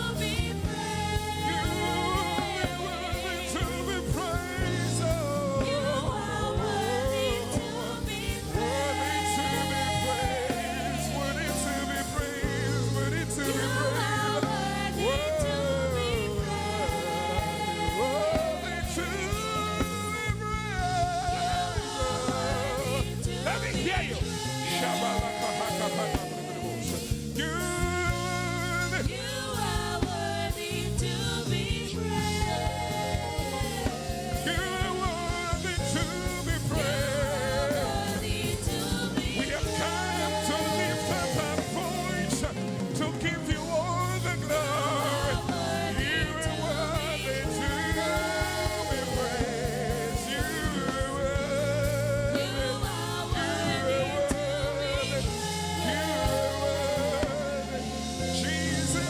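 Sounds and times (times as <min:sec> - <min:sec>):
bass notes: 0:00.0 - 0:59.0
steady drum beat: 0:00.0 - 0:59.0
voices singing gospel music: 0:00.0 - 0:59.0.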